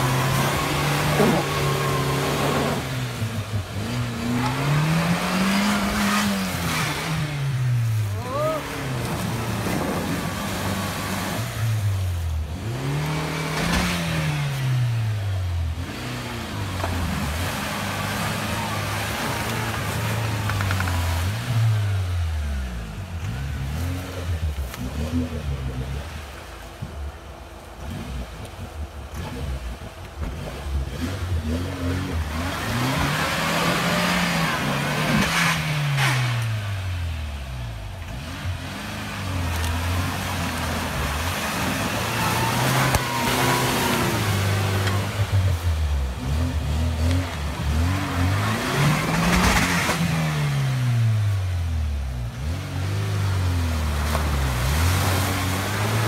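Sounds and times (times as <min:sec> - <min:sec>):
engine revving through mud: 0:00.0 - 0:56.0.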